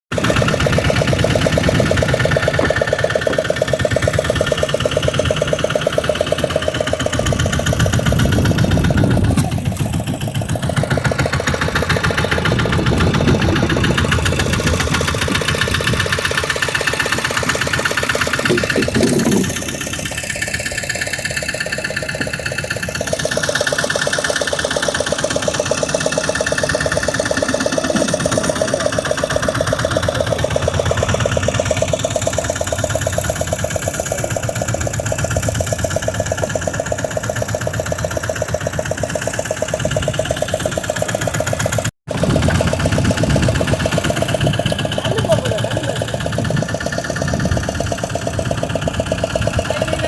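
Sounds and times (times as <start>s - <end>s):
boat engine running: 0.1s - 50.0s.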